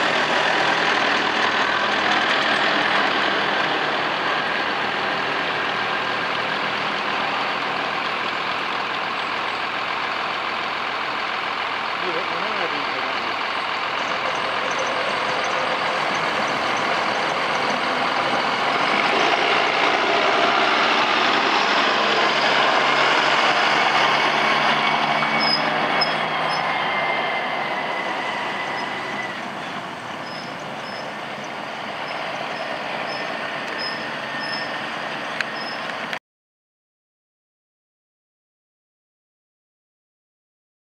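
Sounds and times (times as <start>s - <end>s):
harvester machinery running: 0.0s - 36.2s
tractor engine: 0.0s - 36.2s.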